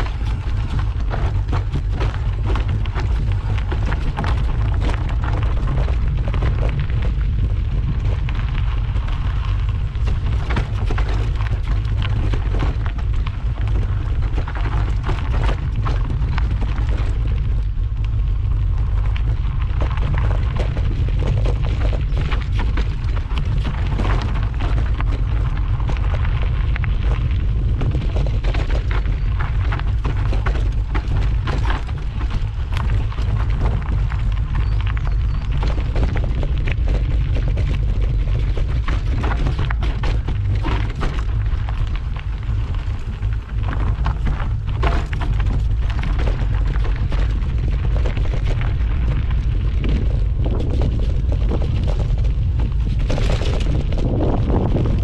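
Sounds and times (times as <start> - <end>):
bike rattling: 0.0 - 55.0
tyres crunching over dirt and stones: 0.0 - 55.0
wind buffeting microphone: 0.0 - 55.0.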